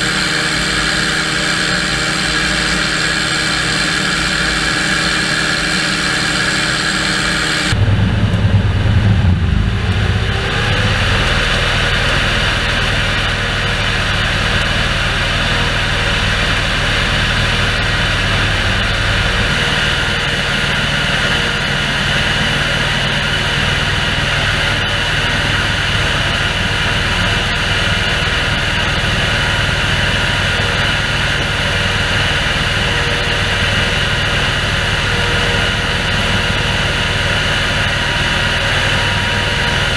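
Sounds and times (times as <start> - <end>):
sprayer fan drone with high whine: 0.0 - 39.9
tractor engine: 0.0 - 39.9.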